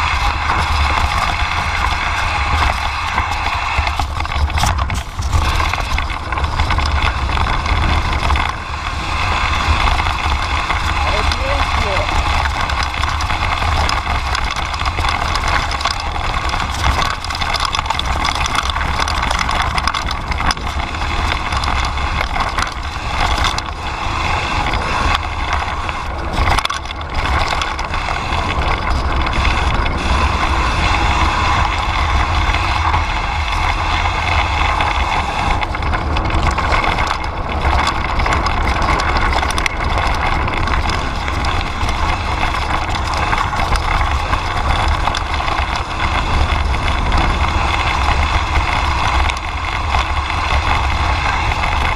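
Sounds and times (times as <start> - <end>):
bike rattling and clicking: 0.0 - 51.9
tyres crunching on gravel: 0.0 - 51.9
wind buffeting microphone: 0.0 - 51.9.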